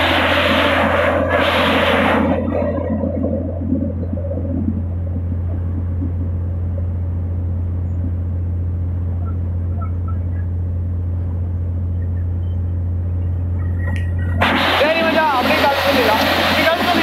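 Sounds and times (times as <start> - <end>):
drilling rig engine drone: 0.0 - 17.0.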